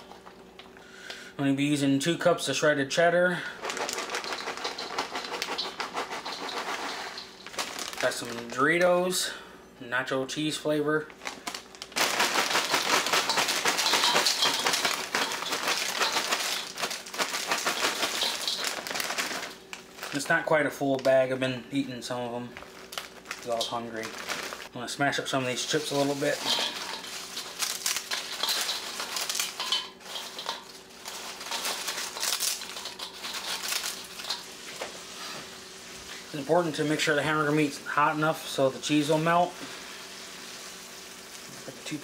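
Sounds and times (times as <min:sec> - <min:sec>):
tortilla chips pouring into metal bowl: 0:03.2 - 0:09.3, 0:11.2 - 0:21.2, 0:22.0 - 0:42.0.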